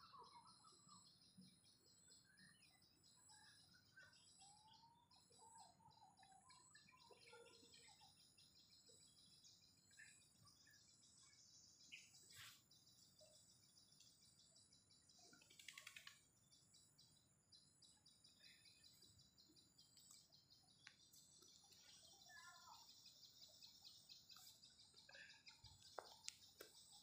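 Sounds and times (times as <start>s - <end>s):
bird chirps: 0.0s - 27.0s.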